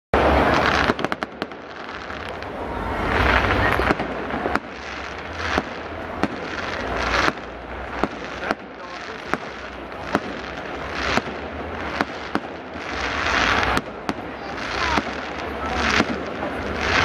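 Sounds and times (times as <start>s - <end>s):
firework bangs and cracks: 0.2s - 17.0s
firework hiss: 0.2s - 17.0s.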